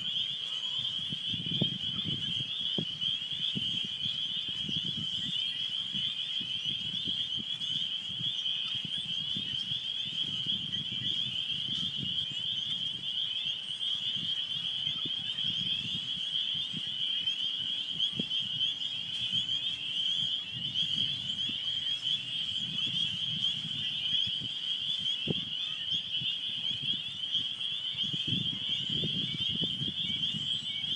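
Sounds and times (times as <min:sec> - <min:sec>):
frogs peeping: 0:00.0 - 0:30.9.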